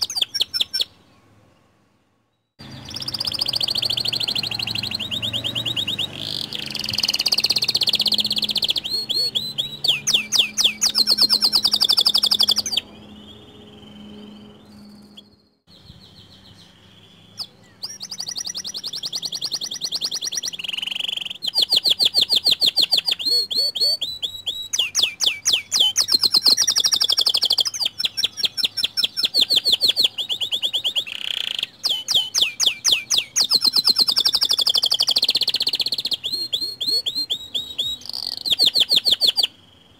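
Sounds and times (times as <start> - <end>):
canary singing trills: 0.0 - 1.6, 2.4 - 39.9.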